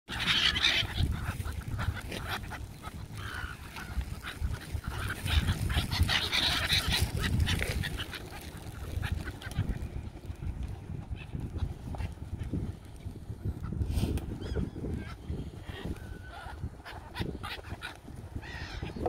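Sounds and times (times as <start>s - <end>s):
gulls calling: 0.1s - 19.0s.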